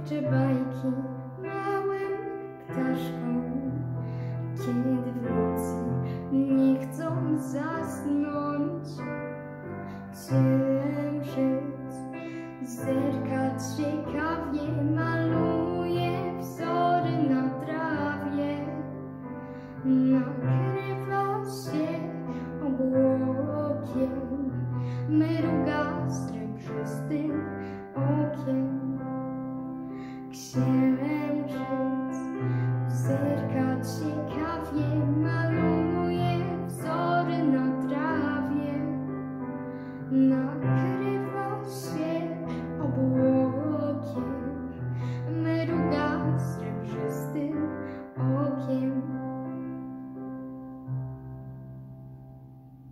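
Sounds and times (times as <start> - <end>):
child singing: 0.0 - 3.8, 4.6 - 9.2, 10.1 - 19.0, 19.9 - 29.1, 30.3 - 39.1, 40.1 - 44.7, 45.3 - 49.2
piano backing track: 0.0 - 52.9.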